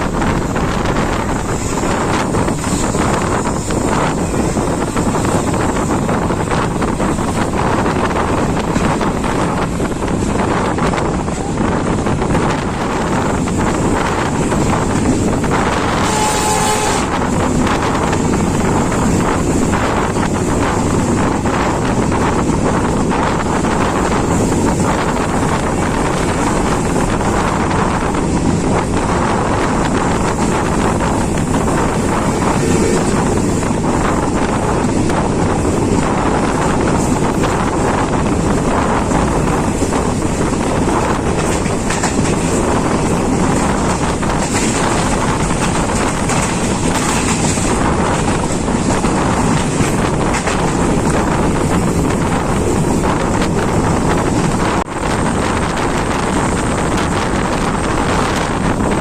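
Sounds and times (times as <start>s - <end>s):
train wheels rumbling on rails: 0.0s - 59.0s
wind rushing over microphone: 0.0s - 59.0s.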